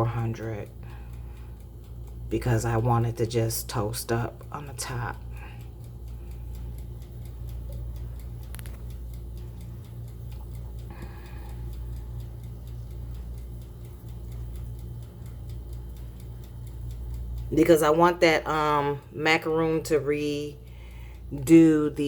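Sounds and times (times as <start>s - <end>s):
low steady hum: 0.0s - 22.0s
mechanical timer ticking: 0.0s - 22.0s.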